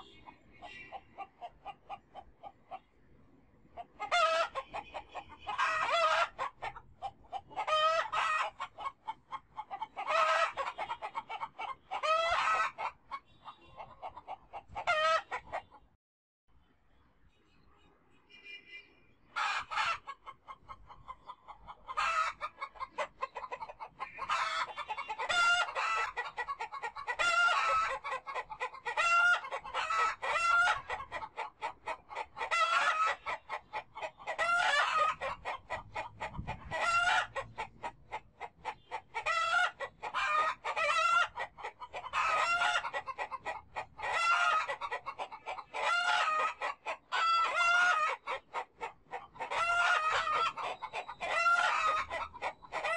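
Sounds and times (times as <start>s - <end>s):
chickens clucking: 0.0s - 16.0s, 19.2s - 52.9s.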